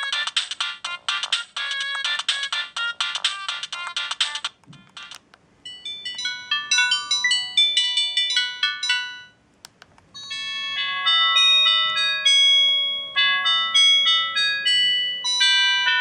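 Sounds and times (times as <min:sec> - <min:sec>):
phone ringtone tune: 0:00.0 - 0:09.4, 0:10.2 - 0:16.0.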